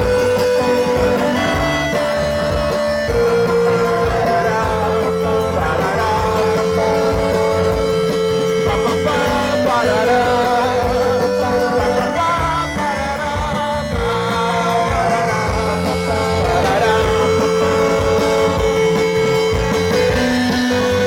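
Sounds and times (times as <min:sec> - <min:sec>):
live band with guitars: 0:00.0 - 0:21.0.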